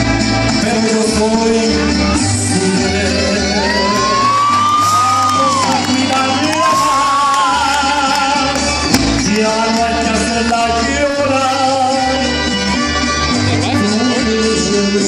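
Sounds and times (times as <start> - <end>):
man singing: 0.0 - 15.0
violins trumpets and guitars: 0.0 - 15.0.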